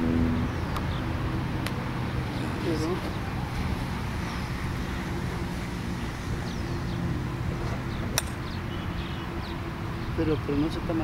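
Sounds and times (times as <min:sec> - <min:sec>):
low mechanical hum: 0:00.0 - 0:10.9
outdoor background noise: 0:00.0 - 0:11.0.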